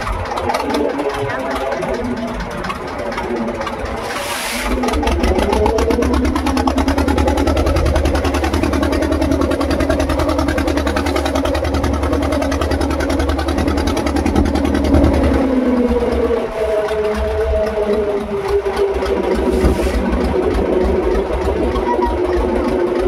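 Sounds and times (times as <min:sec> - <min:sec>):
boat engine revving up: 0:00.0 - 0:23.0.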